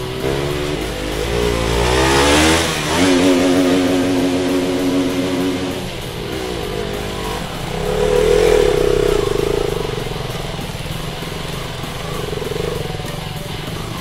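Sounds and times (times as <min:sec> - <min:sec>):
motorcycle engine revving: 0:00.0 - 0:14.0
music: 0:00.0 - 0:14.0.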